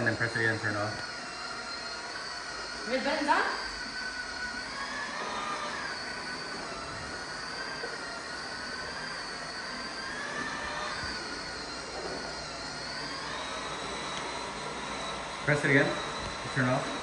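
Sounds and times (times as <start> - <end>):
fog machine hissing: 0.0 - 17.0
toy train electric motor whine: 0.0 - 17.0.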